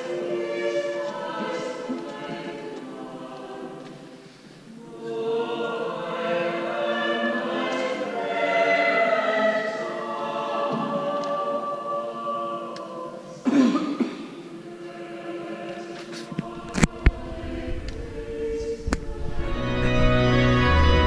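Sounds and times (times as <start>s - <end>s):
choir singing: 0.0s - 21.0s.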